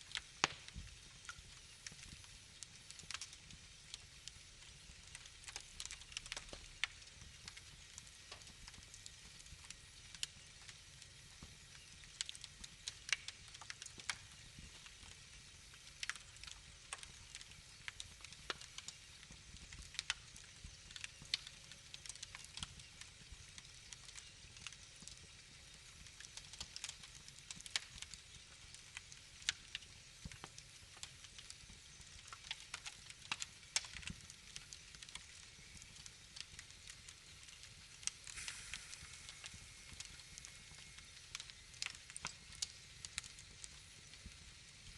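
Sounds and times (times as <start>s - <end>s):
faint steady hiss: 0.0s - 44.9s
fire crackling and popping: 0.0s - 44.9s.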